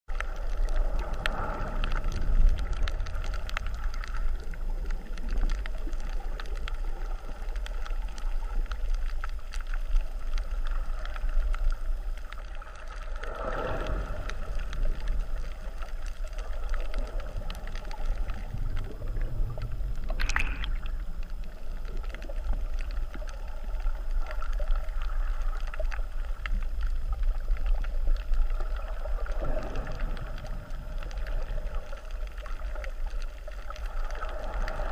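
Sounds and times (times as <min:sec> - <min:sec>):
bubbles clicking and crackling: 0:00.1 - 0:34.9
rush of water: 0:00.1 - 0:34.9
underwater low rumble: 0:00.1 - 0:34.9.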